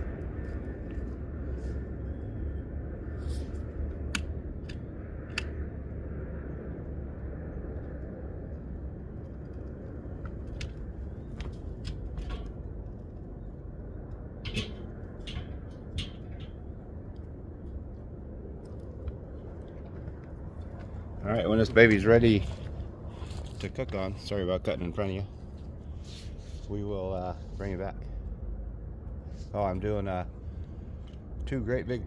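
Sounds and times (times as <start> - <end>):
low outdoor rumble: 0.0 - 32.0.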